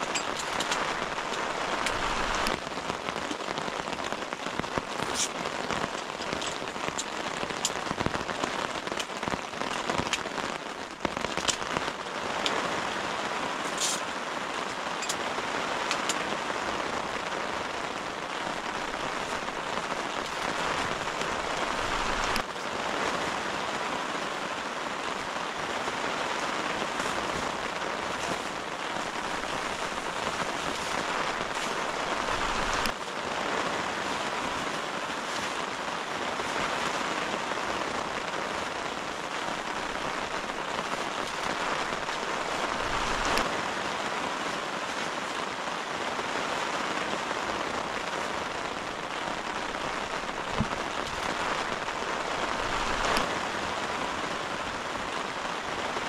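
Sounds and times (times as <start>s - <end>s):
heavy rain on tent fabric: 0.0s - 56.0s.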